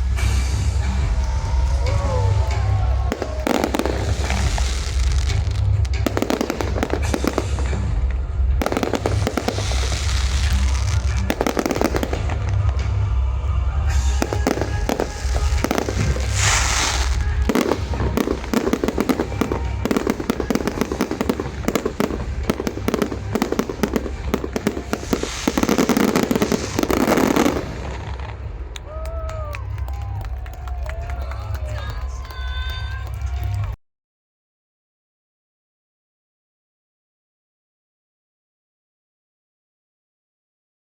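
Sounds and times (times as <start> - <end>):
fireworks bangs and crackling: 0.0 - 33.8
music: 0.0 - 33.8.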